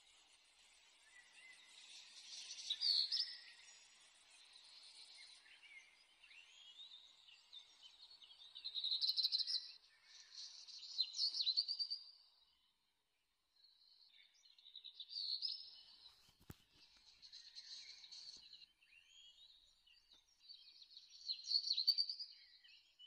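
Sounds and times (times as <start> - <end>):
small birds chirping and singing: 0.0 - 23.0.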